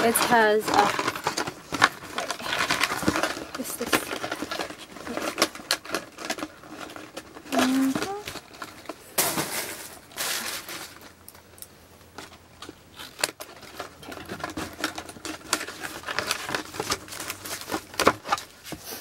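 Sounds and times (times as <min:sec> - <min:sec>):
paper and plastic rustling: 0:00.0 - 0:11.2, 0:12.1 - 0:19.0.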